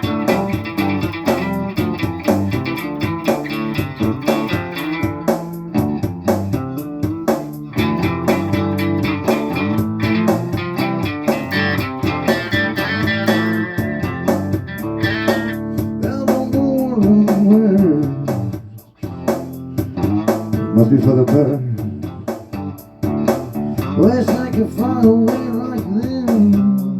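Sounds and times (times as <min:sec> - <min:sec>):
bending lead guitar line: 0:00.0 - 0:26.9
blues-rock band music: 0:00.0 - 0:26.9.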